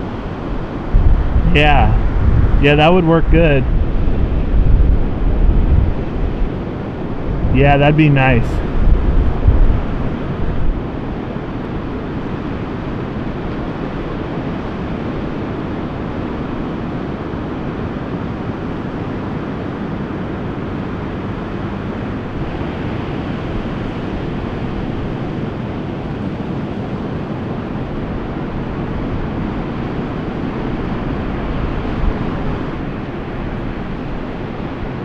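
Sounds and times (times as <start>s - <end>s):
ocean surf breaking: 0.0s - 35.0s
wind buffeting microphone: 0.0s - 35.0s.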